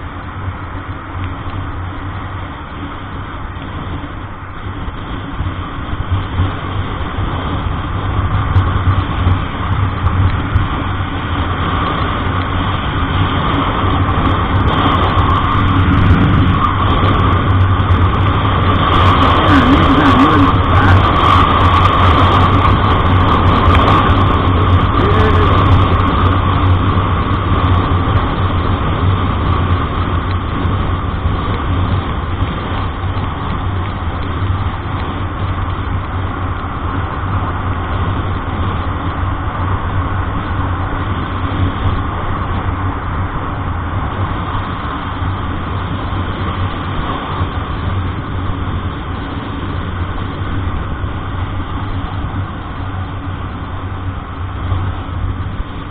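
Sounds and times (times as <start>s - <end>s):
road noise: 0.0s - 55.9s
vehicle engine droning: 0.0s - 55.9s.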